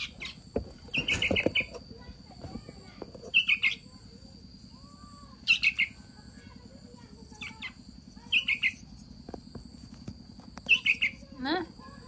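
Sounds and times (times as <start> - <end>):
fledgling birds chirping: 0.0 - 12.0.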